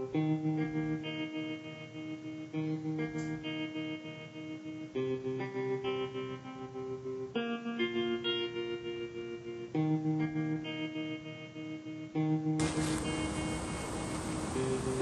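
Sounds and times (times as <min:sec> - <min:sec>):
plucked guitar slow chords: 0:00.0 - 0:15.0.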